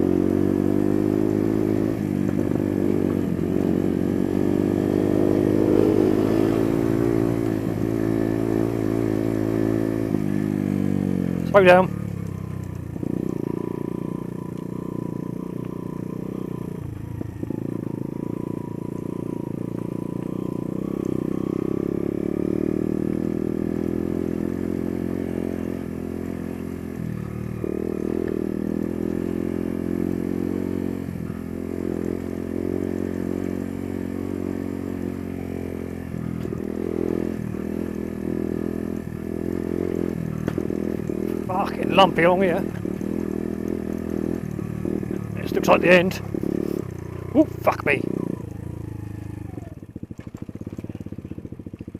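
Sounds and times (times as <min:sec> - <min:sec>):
motorcycle engine running: 0:00.0 - 0:51.9
motorcycle rattling over bumps: 0:00.0 - 0:51.9.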